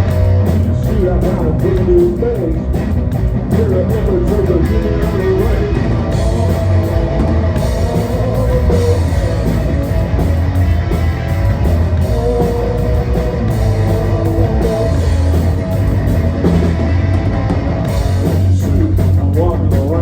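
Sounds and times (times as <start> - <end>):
bass guitar: 0.0 - 20.0
distorted electric guitar: 0.0 - 20.0
drum kit: 0.0 - 20.0.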